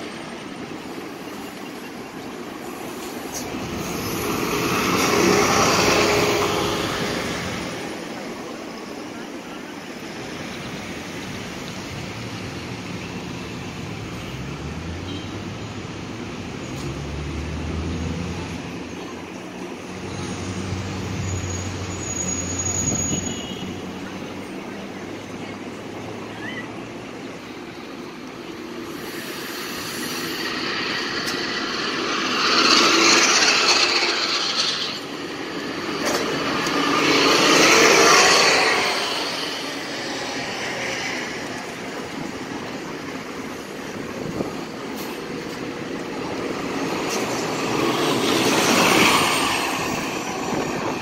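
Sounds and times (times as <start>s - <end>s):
buses pulling away: 0.0s - 51.0s.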